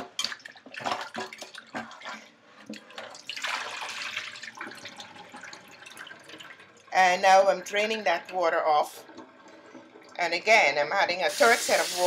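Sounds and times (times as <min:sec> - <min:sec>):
water sloshing in a bowl: 0:00.0 - 0:10.4
water pouring into a sink: 0:00.0 - 0:12.0.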